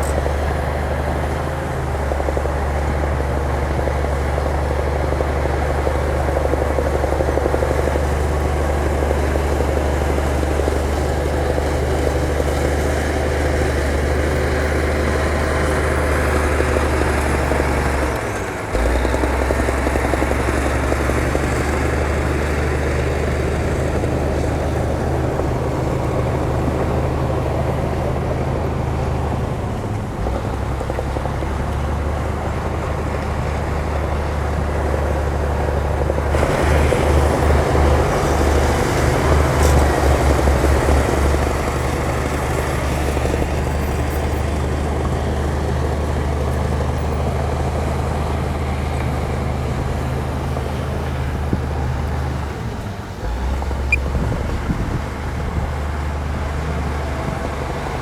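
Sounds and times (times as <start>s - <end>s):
heavy diesel engine rumbling: 0.0s - 58.0s.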